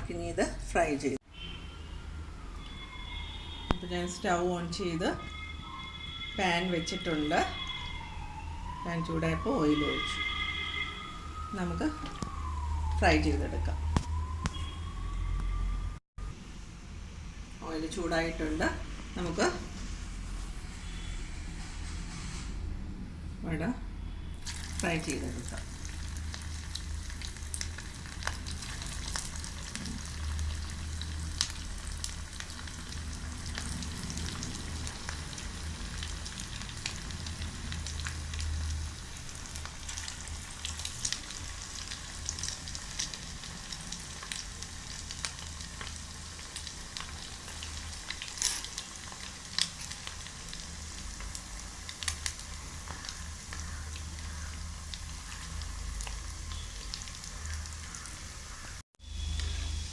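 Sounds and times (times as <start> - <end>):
food deep-frying in oil: 2.2 - 15.7, 24.3 - 59.9.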